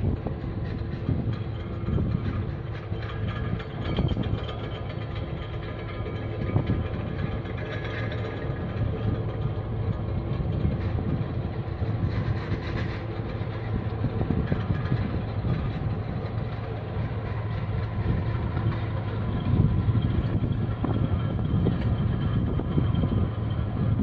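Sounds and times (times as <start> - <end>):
ship engines droning rumble: 0.0 - 24.0.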